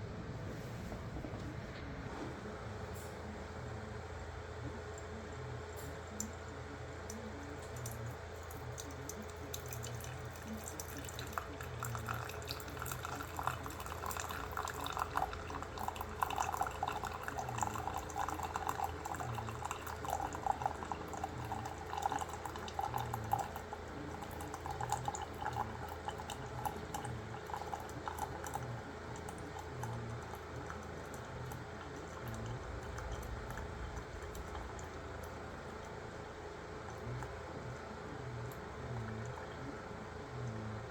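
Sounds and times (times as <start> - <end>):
water running in a sink: 7.0 - 40.9.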